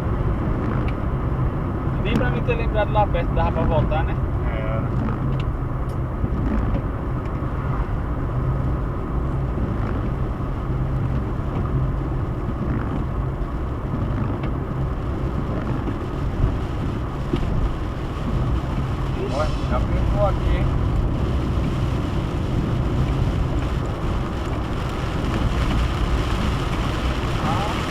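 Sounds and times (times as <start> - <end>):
car road and engine noise: 0.0 - 27.9.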